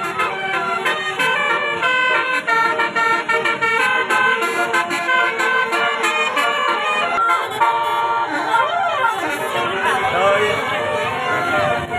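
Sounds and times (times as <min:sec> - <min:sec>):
bus horn playing a melody: 0:00.0 - 0:11.9.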